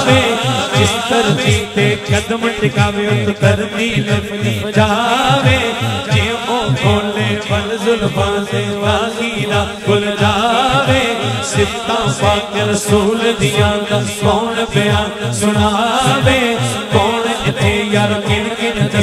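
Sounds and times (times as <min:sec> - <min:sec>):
man singing through microphone: 0:00.0 - 0:19.0.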